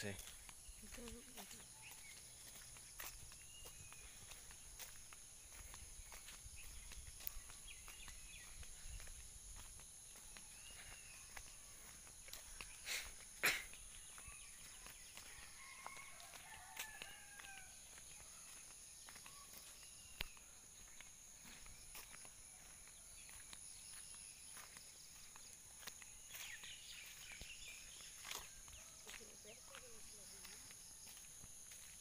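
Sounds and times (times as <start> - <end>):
soft footsteps: 0.0 - 32.0.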